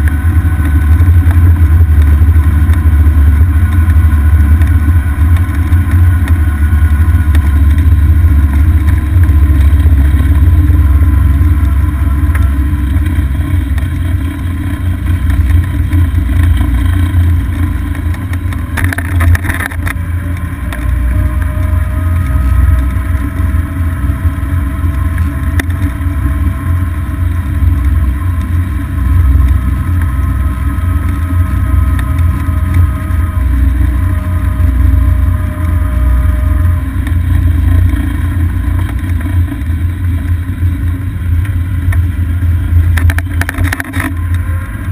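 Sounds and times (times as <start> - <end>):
golf cart drive whine: 0.0 - 44.9
wind rumble on microphone: 0.0 - 44.9.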